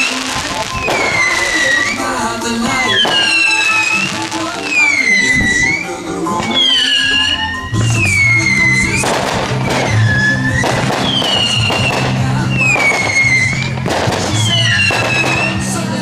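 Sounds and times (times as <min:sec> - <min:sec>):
fireworks bursting: 0:00.0 - 0:16.0
music with gliding melody and beat: 0:00.0 - 0:16.0.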